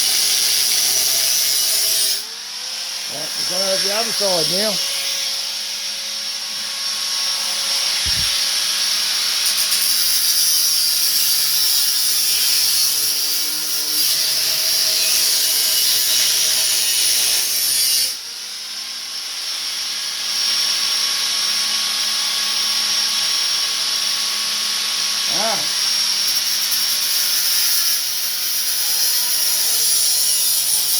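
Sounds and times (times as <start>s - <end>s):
angle grinder cutting metal pipe: 0.0s - 18.2s, 19.2s - 30.9s.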